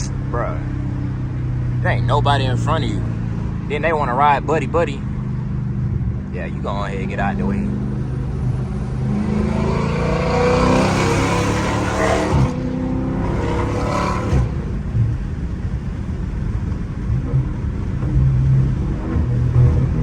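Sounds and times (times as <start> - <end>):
car engine revving: 0.0 - 20.0
engine low rumble with blips: 0.0 - 20.0.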